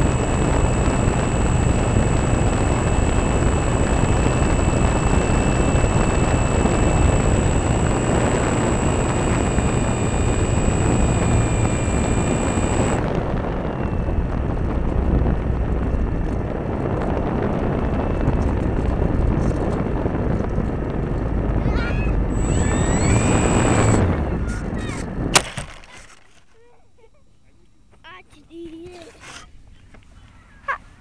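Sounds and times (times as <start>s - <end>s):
high motor whine: 0.0s - 25.4s
wind rush over microphone: 0.0s - 25.4s.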